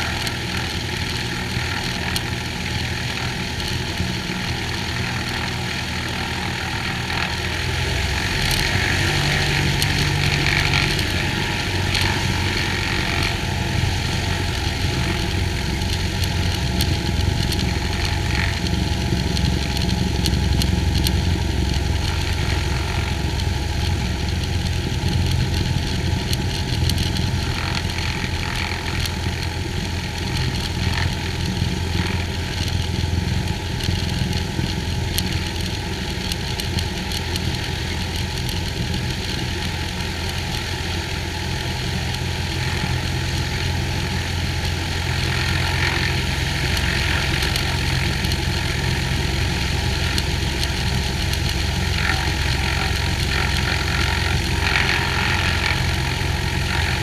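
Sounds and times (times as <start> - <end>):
aircraft engine and propeller running: 0.0 - 57.0.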